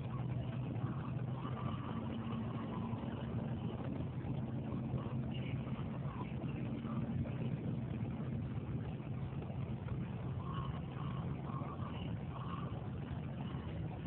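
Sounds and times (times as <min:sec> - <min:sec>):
engine idling hum: 0:00.0 - 0:14.0.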